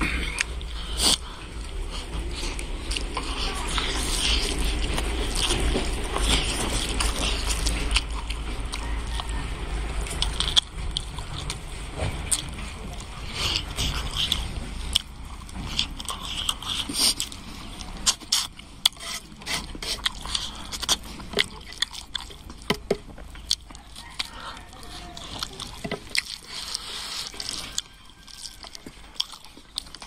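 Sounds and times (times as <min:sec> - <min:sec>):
person chewing and lip smacking: 0:00.0 - 0:30.0.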